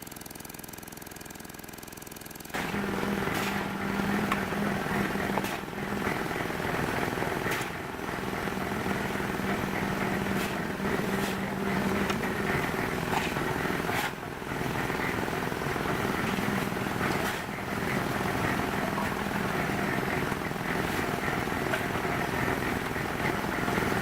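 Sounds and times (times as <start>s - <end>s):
engine droning: 2.5s - 24.0s.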